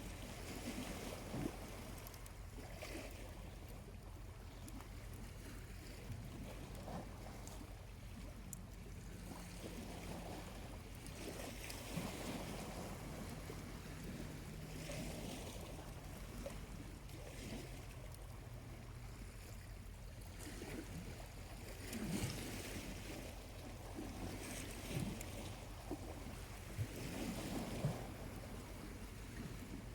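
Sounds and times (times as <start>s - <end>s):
small waves washing onto beach: 0.0s - 29.9s.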